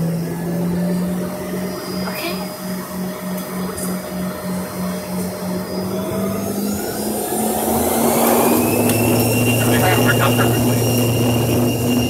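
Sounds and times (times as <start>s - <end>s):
jet engines humming and whining: 0.0s - 12.0s.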